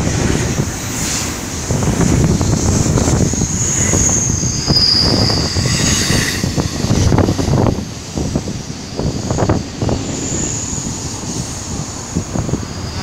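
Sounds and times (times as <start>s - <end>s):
freight train rumbling past: 0.0s - 13.0s
train wheel squeal: 0.1s - 13.0s.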